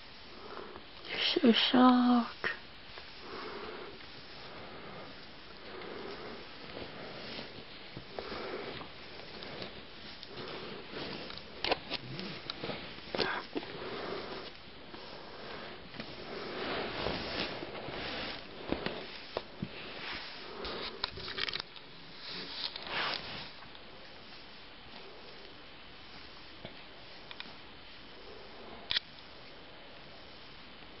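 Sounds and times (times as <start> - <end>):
fabric rustling against cast: 0.0 - 31.0.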